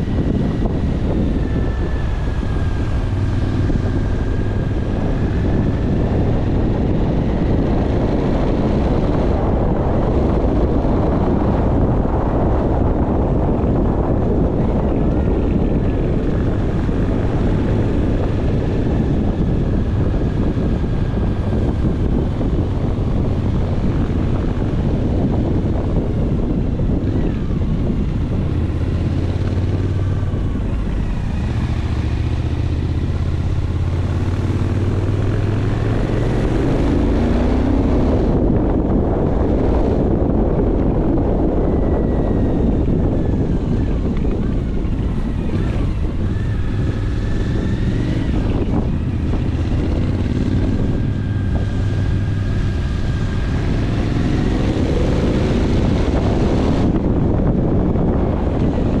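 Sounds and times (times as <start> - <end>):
constant low hum: 0.0 - 59.0
vehicle engine running: 0.0 - 59.0
wind noise on microphone: 0.0 - 59.0.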